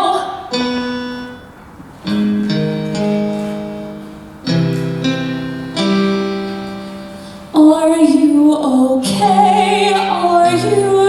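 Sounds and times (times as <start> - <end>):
piano slow sustained chords: 0.0 - 11.0.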